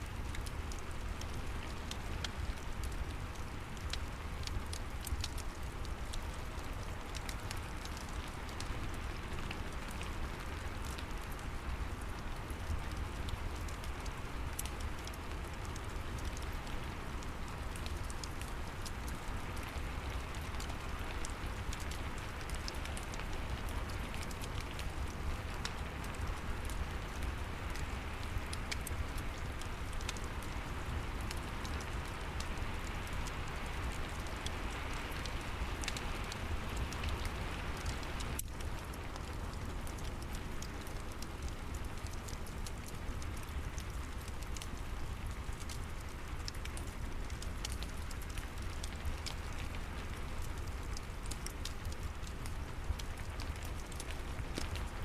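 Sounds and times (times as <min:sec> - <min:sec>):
steady rain: 0:00.0 - 0:55.0
wood fire crackling: 0:00.0 - 0:55.0.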